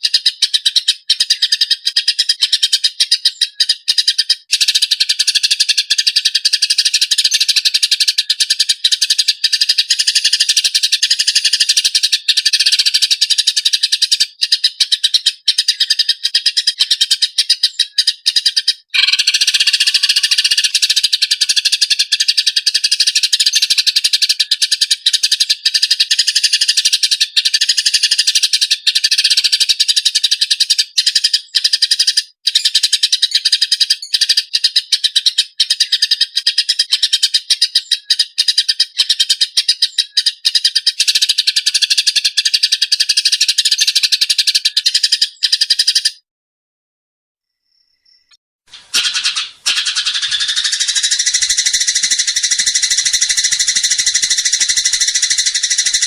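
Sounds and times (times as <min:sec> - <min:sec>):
songbird rapid rattling trill: 0:00.0 - 0:46.2, 0:48.0 - 0:56.0.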